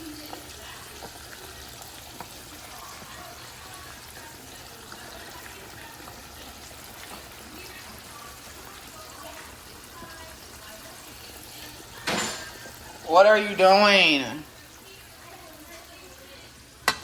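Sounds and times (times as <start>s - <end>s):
chicken deep-frying sizzle: 0.0s - 17.0s.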